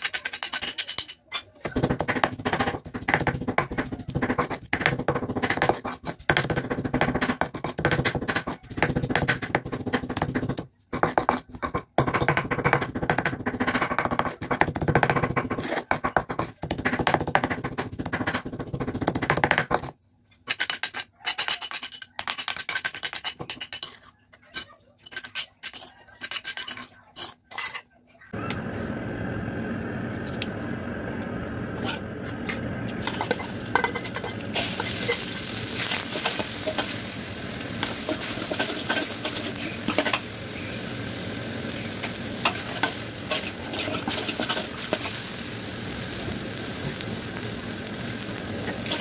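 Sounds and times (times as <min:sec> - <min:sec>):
stone pestle grinding spice paste: 0:00.0 - 0:01.1, 0:01.8 - 0:19.9, 0:20.5 - 0:24.0, 0:25.1 - 0:27.4, 0:32.9 - 0:47.4, 0:48.0 - 0:49.0.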